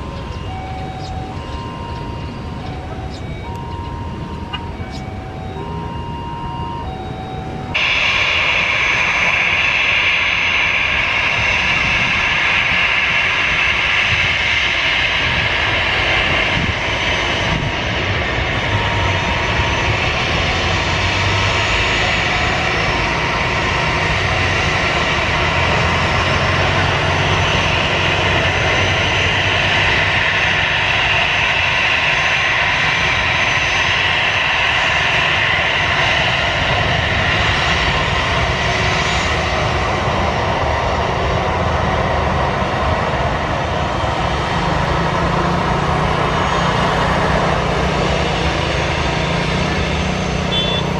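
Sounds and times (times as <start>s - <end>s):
jet engines whining: 0.0s - 50.9s.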